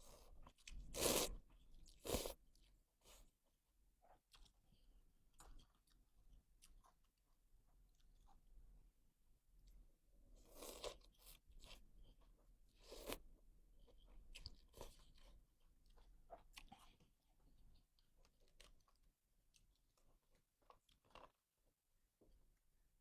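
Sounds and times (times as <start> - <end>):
chewing and crunching food: 0.0 - 21.6.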